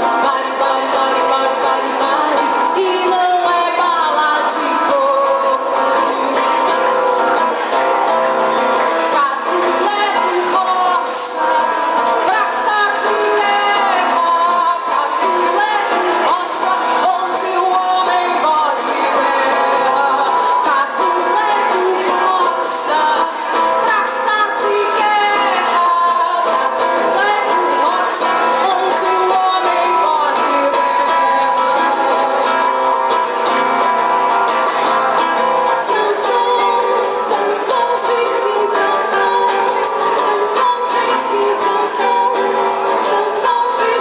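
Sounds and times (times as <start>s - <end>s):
acoustic guitar: 0.0s - 44.0s
person singing: 0.0s - 44.0s.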